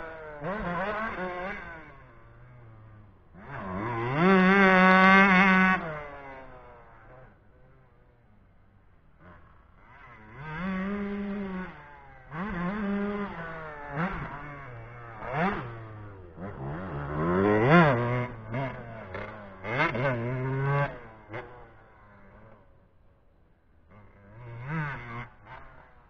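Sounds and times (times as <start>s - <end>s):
two-stroke motocross bike revving: 0.0s - 26.0s.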